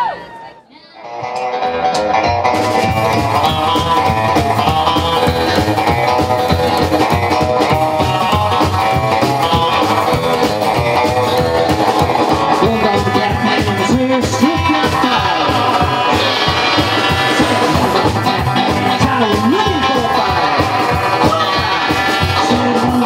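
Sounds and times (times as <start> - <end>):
rockabilly band music: 1.0 - 23.0.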